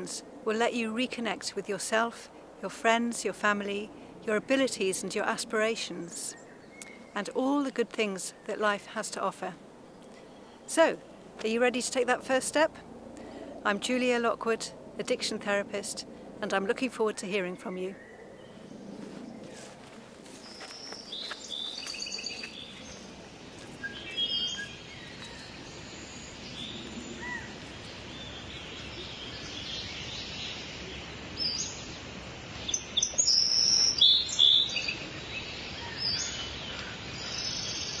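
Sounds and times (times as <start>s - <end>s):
songbirds singing and calling: 0.0s - 38.0s
steady background hiss: 0.0s - 38.0s.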